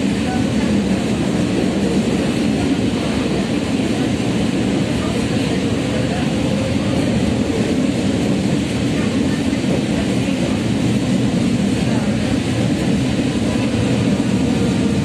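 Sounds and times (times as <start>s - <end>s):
tram wheels on rails: 0.0s - 15.0s.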